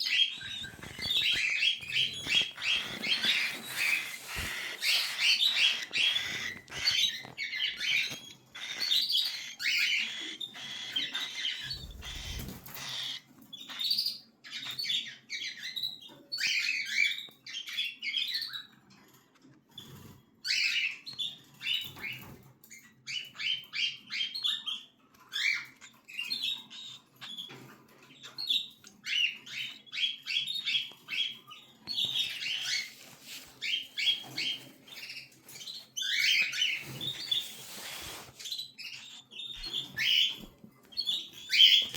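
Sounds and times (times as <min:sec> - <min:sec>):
cockatiel chicks chirping: 0:00.0 - 0:41.9.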